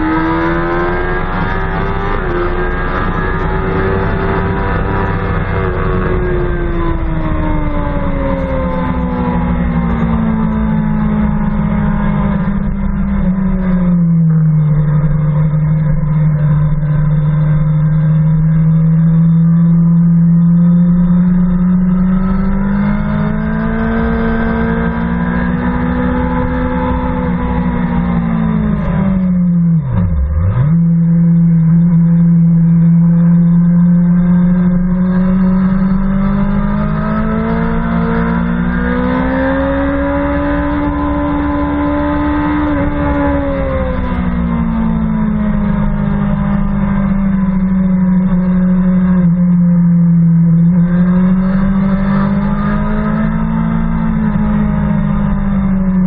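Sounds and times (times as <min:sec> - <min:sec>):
motorcycle engine revving hard: 0:00.0 - 0:13.8, 0:14.6 - 0:56.0.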